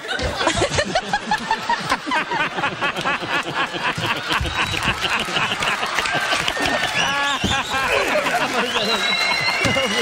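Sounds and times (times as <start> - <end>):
audience laughing: 0.0 - 10.0
hand claps: 1.2 - 2.1, 2.7 - 10.0.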